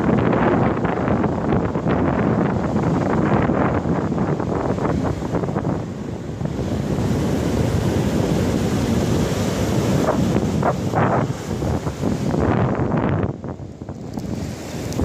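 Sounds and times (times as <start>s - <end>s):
surf washing over sandy beach: 0.0s - 15.0s
wind buffeting microphone: 0.0s - 15.0s.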